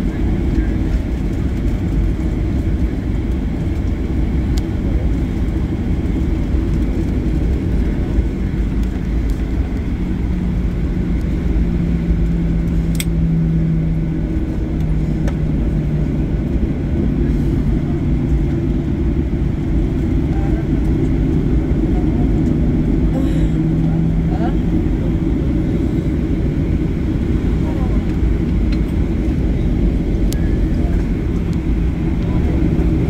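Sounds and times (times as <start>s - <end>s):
airliner engines and wheels rumbling: 0.0s - 33.0s
low steady hum: 0.0s - 33.0s.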